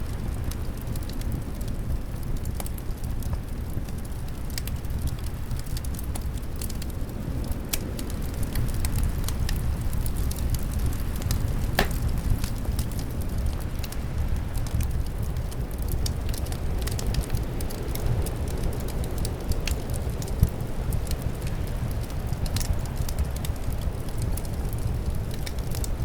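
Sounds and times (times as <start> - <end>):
low rumble of wind: 0.0 - 26.0
wood fire crackling: 0.0 - 26.0.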